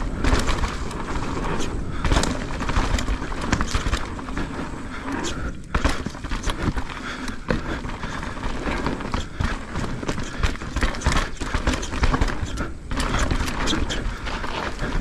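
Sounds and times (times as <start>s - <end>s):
bike knocks and rattles: 0.0s - 15.0s
bike tyres on rough trail: 0.0s - 15.0s.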